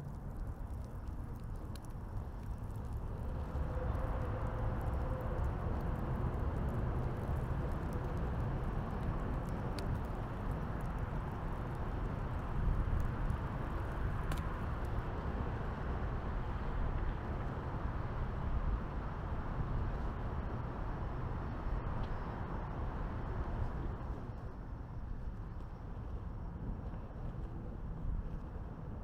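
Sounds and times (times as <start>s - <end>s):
city traffic rumble: 0.0s - 29.0s
faint fire crackles: 0.0s - 29.0s
wind: 0.0s - 29.0s.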